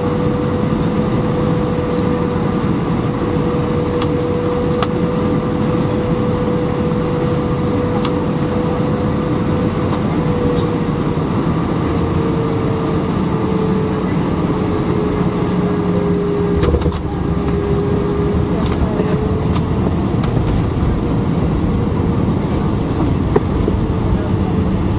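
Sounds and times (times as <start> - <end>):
airliner cabin engine rumble: 0.0 - 24.9
engine whine: 0.0 - 24.9.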